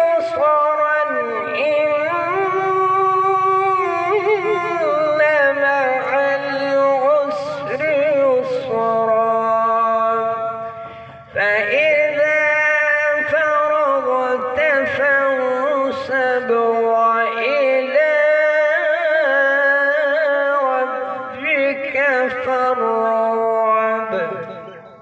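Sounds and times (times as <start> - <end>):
man reciting over loudspeaker: 0.0 - 25.0.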